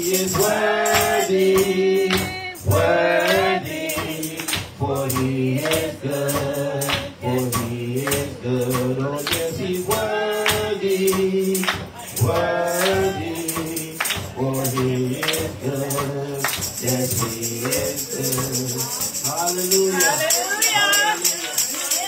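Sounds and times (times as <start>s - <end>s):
gospel chorus singing: 0.0s - 22.0s
hand clapping: 0.0s - 22.0s
man singing lead: 0.0s - 22.0s
tambourine: 0.0s - 22.0s.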